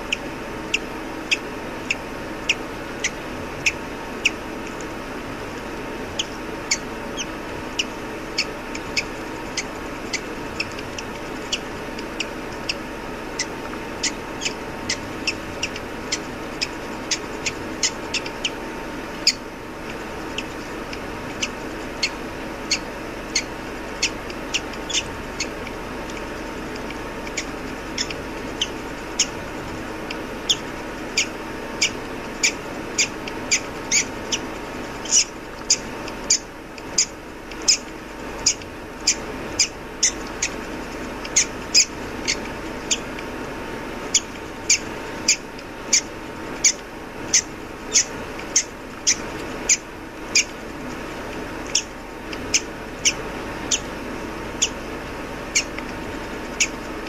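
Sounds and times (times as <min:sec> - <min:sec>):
bird chick peeping: 0:00.0 - 0:04.9, 0:05.5 - 0:43.4, 0:44.0 - 0:51.0, 0:51.6 - 0:56.9.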